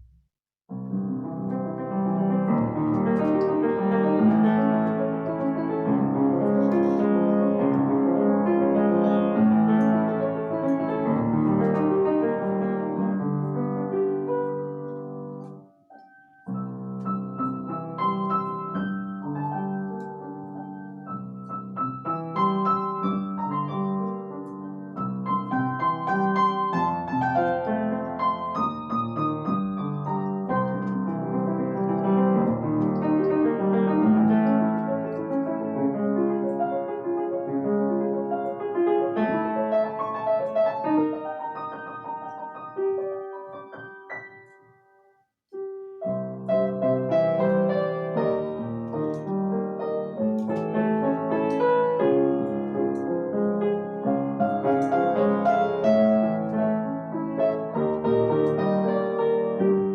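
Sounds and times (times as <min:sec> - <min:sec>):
solo piano piece: 0:00.0 - 0:59.9.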